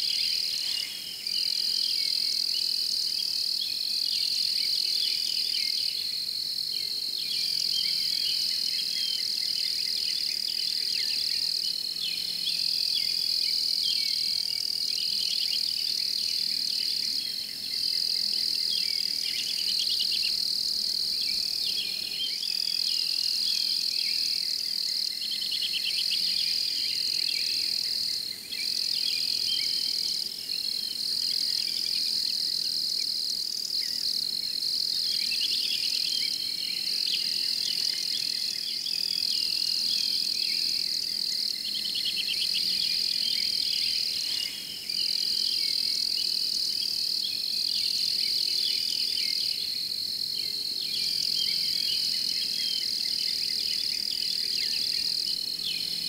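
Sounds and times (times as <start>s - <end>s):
high insect trill: 0.0s - 56.0s
soft insect chirps: 0.0s - 56.0s.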